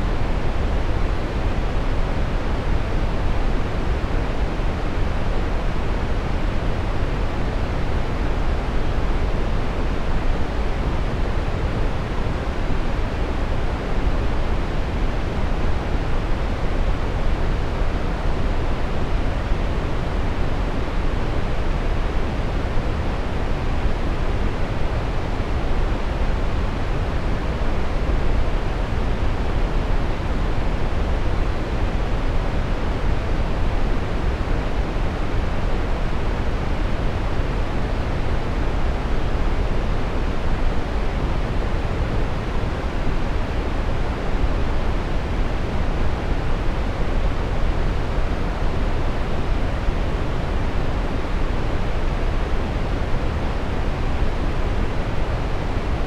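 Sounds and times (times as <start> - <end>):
brown noise rushing hiss: 0.0 - 56.0.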